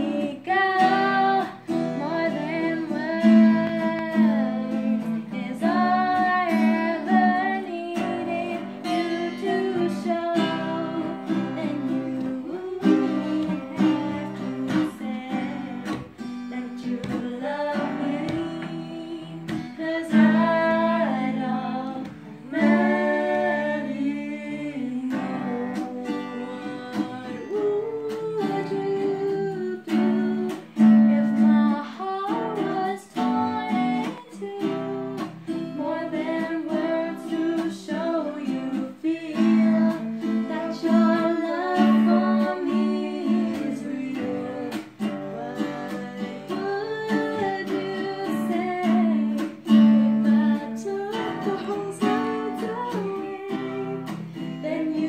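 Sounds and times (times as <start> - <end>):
acoustic guitars strummed and picked: 0.0 - 55.0
woman singing a ballad: 0.0 - 55.0.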